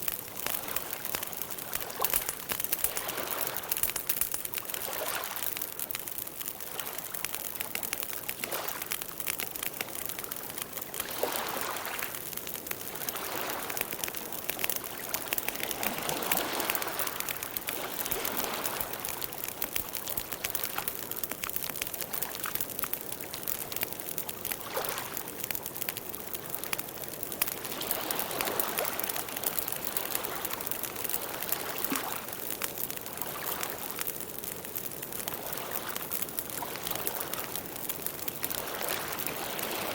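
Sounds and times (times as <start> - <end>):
campfire wood crackling and popping: 0.0 - 39.9.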